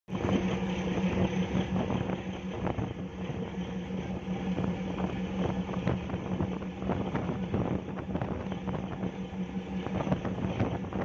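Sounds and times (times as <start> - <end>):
boat engine droning: 0.1 - 11.0
water splashing in boat wake: 0.1 - 11.0.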